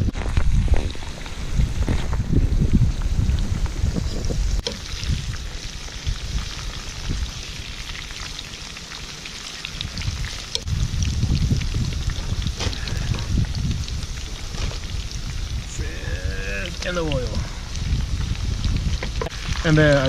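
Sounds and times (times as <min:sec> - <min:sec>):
wind buffeting microphone: 0:00.0 - 0:07.9, 0:09.7 - 0:20.0
light scattered crackle: 0:00.0 - 0:20.0.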